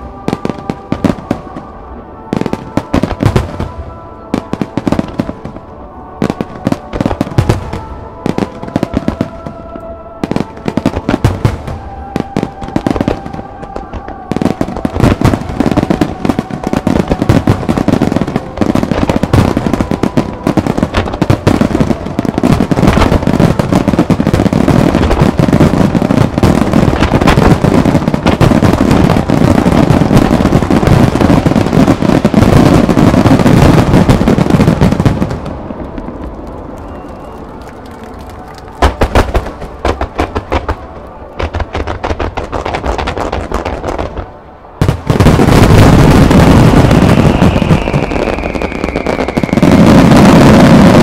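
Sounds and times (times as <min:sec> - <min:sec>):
firework crackle: 0:00.0 - 0:51.0.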